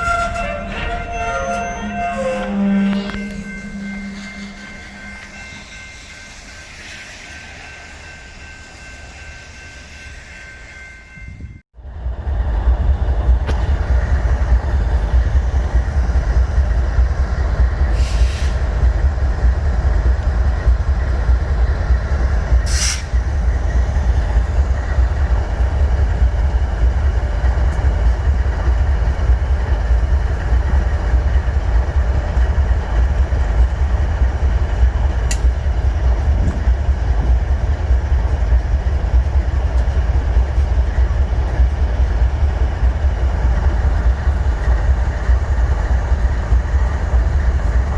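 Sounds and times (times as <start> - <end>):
freight train rumbling: 0.0 - 47.9.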